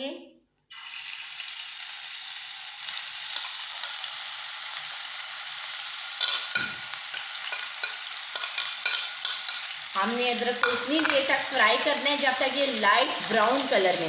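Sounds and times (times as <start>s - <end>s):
ginger sizzling in a pan: 0.7s - 14.0s.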